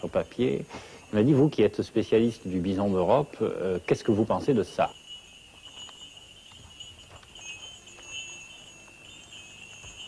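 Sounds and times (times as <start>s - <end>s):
faint high-pitched ringing tone: 0.0s - 10.0s.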